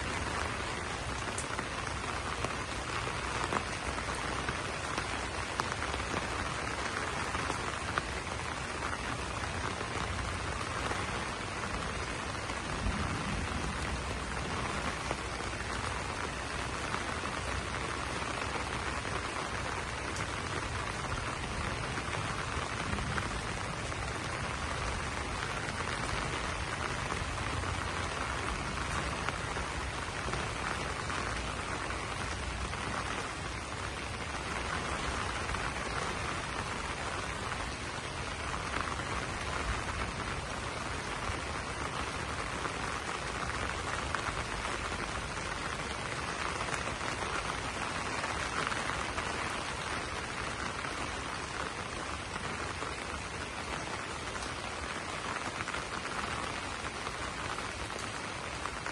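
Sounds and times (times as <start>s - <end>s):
rain falling on leaves: 0.0s - 58.9s.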